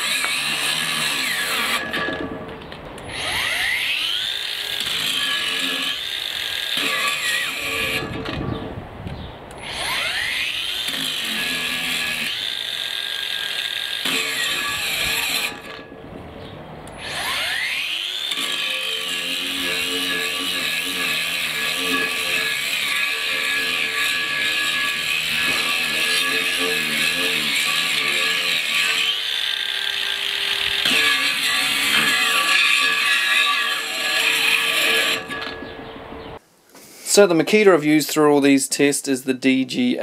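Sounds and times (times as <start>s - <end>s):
angle grinder whining: 0.0s - 8.6s, 9.5s - 16.0s, 16.9s - 36.4s.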